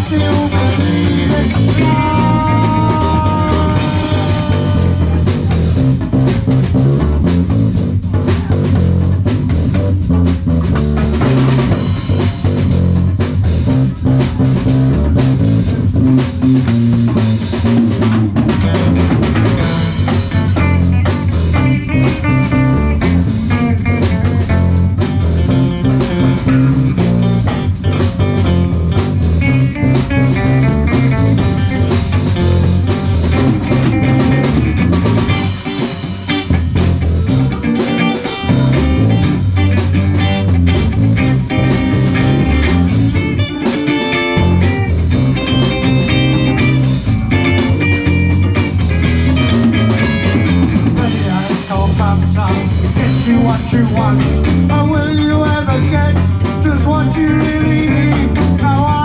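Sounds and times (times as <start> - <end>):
electric guitar: 0.0 - 59.0
rock band playing: 0.0 - 59.0.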